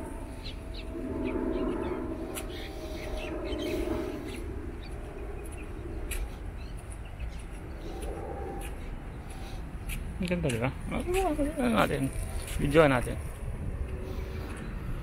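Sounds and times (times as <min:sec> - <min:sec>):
low steady background rumble: 0:00.0 - 0:15.0
small birds chirping: 0:00.3 - 0:13.0.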